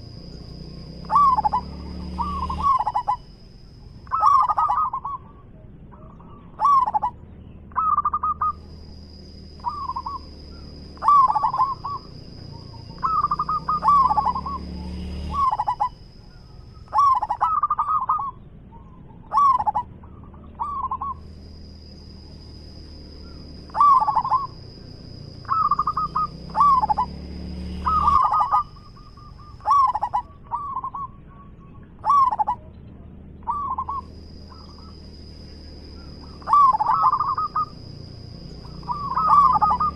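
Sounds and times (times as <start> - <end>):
dove cooing: 0.0 - 21.4, 22.0 - 39.9.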